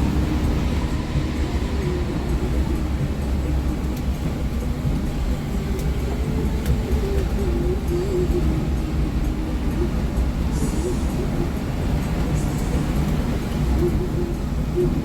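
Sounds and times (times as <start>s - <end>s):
bus diesel engine rumble: 0.0s - 15.0s
road noise: 0.0s - 15.0s.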